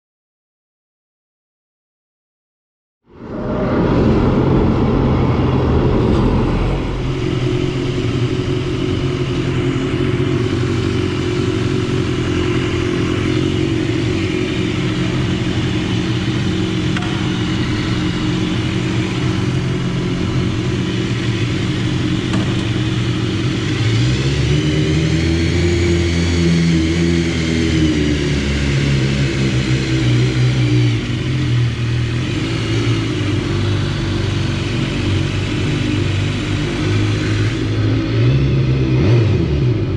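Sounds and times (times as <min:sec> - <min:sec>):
motorcycle engine running: 0:04.1 - 0:39.9.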